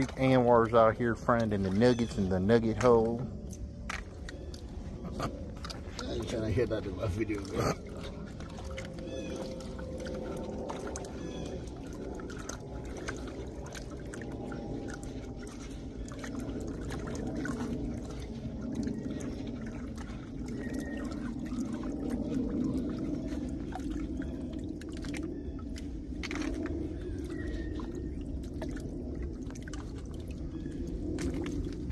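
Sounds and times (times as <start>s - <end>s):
water sloshing and splashing: 0.0s - 31.9s.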